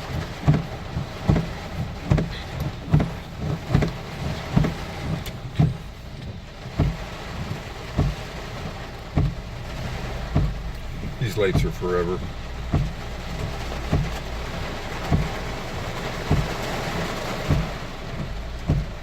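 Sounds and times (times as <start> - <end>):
car cabin noise: 0.0 - 19.0
steady rain: 0.0 - 19.0
windshield wipers thumping: 0.0 - 19.0.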